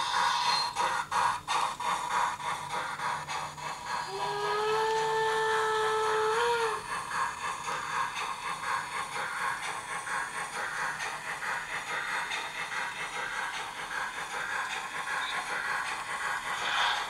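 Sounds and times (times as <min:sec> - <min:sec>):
locomotive chuffing and rattling: 0:00.0 - 0:17.0.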